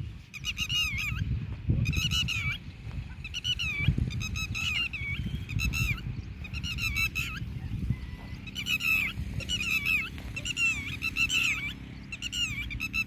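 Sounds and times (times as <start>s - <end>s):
lapwings shrill alarm calls: 0.2s - 13.0s.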